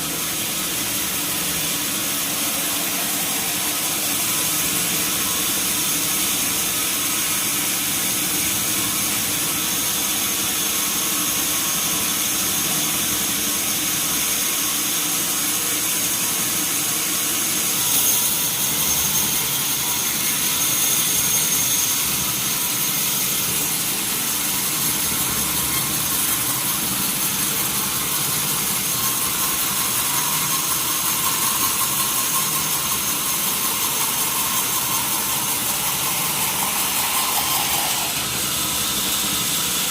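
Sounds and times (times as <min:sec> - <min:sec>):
band saw running: 0:00.0 - 0:39.9.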